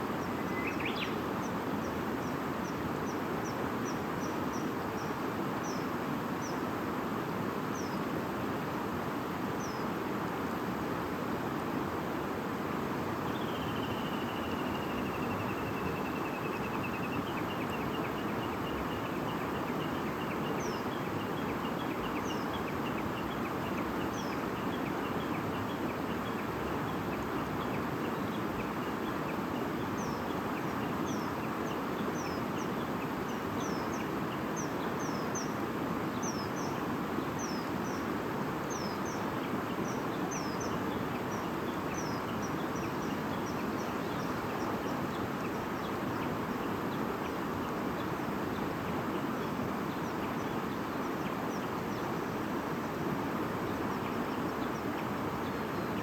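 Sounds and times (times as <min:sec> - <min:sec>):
small birds chirping: 0:00.0 - 0:06.6, 0:13.3 - 0:56.0.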